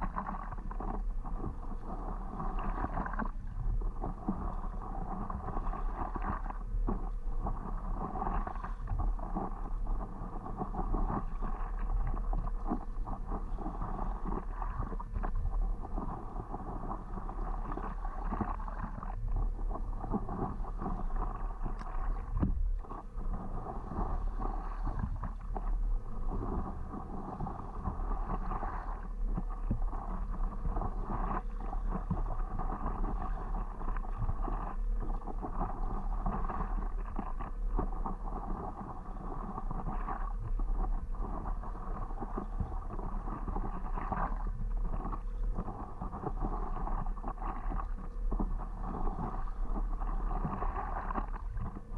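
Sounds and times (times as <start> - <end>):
water splashing against paddleboard: 5.4 - 51.9.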